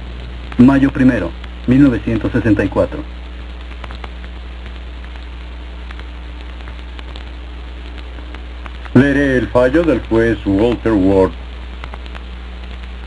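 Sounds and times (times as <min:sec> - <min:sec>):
faint crackles and clicks: 0:00.0 - 0:13.0
film soundtrack hiss: 0:00.0 - 0:13.0
low hum: 0:00.0 - 0:13.0.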